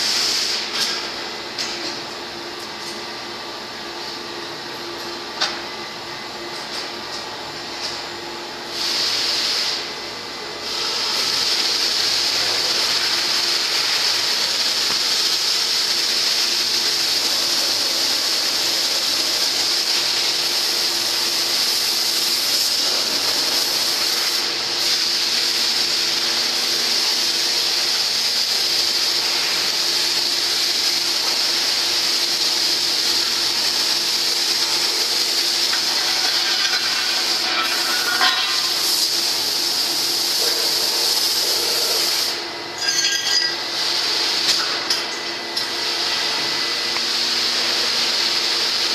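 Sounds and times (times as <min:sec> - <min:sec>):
loud hiss of gas blowing: 0:00.0 - 0:01.2, 0:08.6 - 0:42.8, 0:43.7 - 0:44.9, 0:45.6 - 0:48.9.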